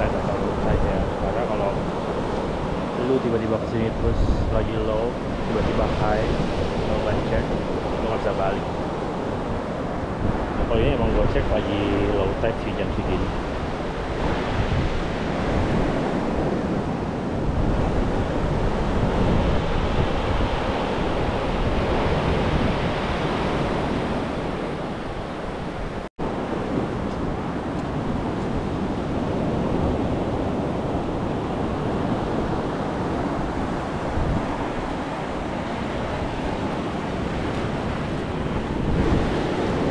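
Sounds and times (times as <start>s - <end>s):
sea surf washing on beach: 0.0s - 39.9s
wind rumbling on microphone: 0.0s - 39.9s.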